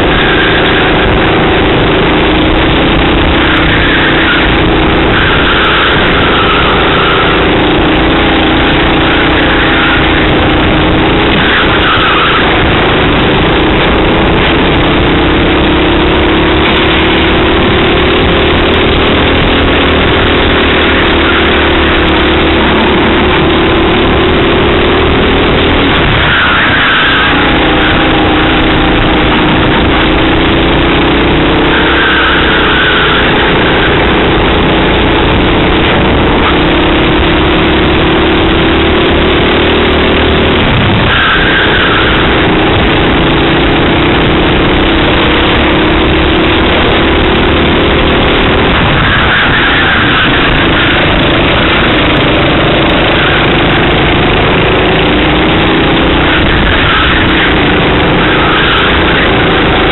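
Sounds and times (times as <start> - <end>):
loud rushing noise: 0.0 - 59.9
racing kart engine: 0.0 - 59.9.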